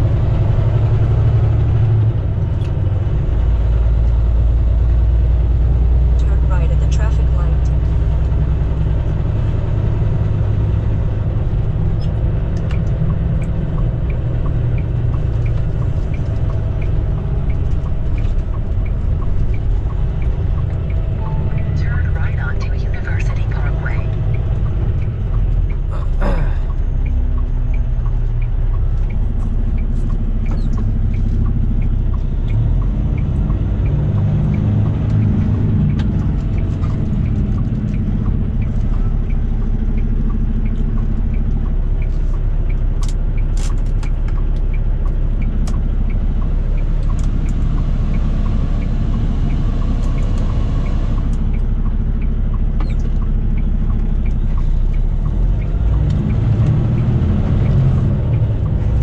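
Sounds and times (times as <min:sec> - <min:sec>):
truck engine rumble in cab: 0:00.0 - 0:59.0
light ticking: 0:10.2 - 0:59.0.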